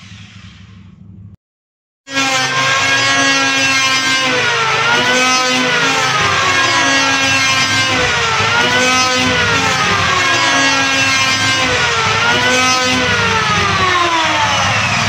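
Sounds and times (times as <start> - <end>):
electric wood planer whining: 2.1 - 15.0.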